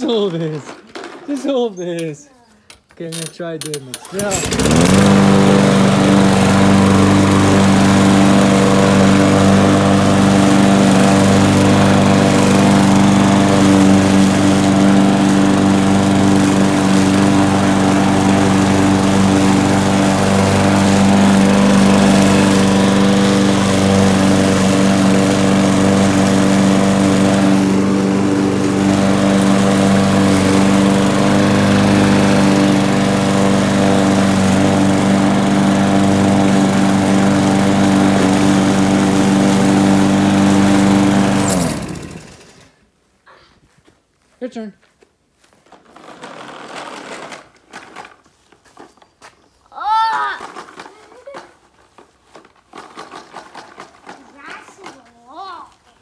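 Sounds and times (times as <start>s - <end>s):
lawn mower running: 3.0s - 42.9s, 45.6s - 48.9s, 49.8s - 55.4s.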